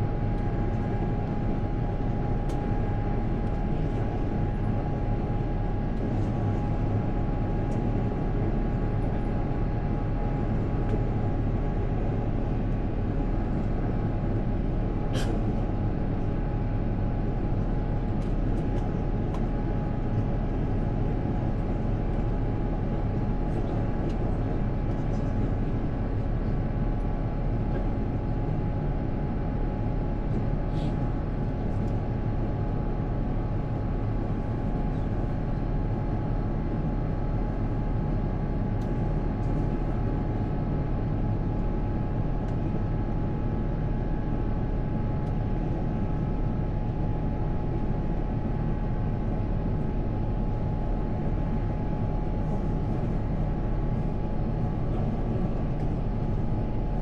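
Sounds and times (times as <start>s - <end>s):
jet engine and airflow drone: 0.0s - 57.0s.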